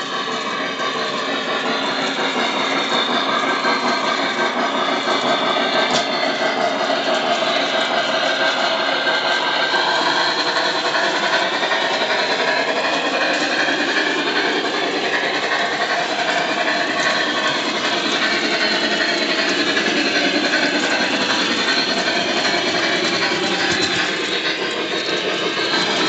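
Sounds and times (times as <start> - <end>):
model train rumbling on track: 0.0 - 26.0.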